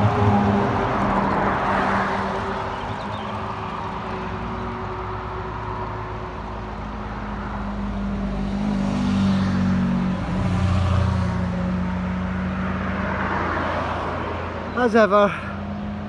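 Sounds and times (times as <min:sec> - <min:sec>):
vehicles passing on road: 0:00.0 - 0:16.0.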